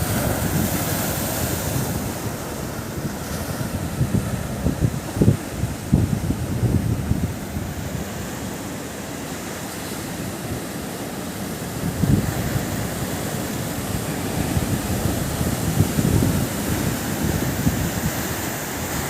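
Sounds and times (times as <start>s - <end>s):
sea surf washing onto beach: 0.0s - 19.0s.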